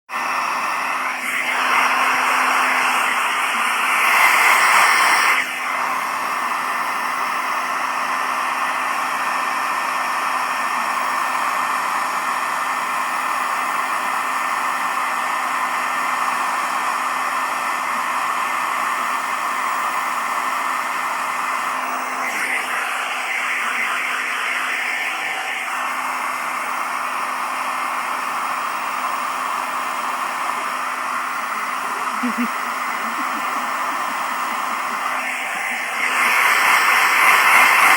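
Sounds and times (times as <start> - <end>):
hairdryer blowing: 0.1 - 37.9.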